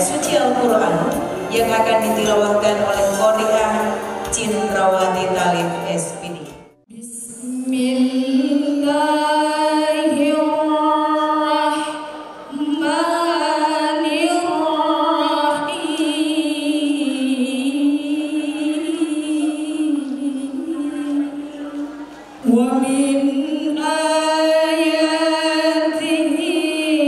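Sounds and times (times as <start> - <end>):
woman chanting through microphone: 0.0 - 27.0.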